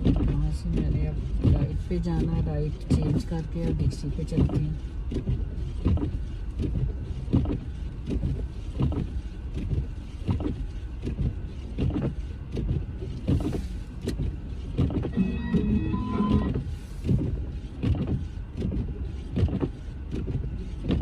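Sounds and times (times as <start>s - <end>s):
engine and tyre rumble: 0.0s - 21.0s.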